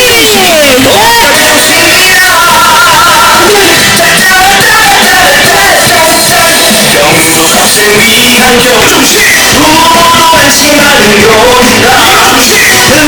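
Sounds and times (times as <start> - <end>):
campaign song with singing: 0.0 - 13.0.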